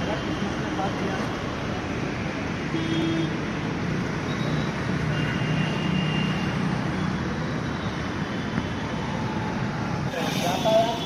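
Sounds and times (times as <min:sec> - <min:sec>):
steady road traffic: 0:00.0 - 0:11.0.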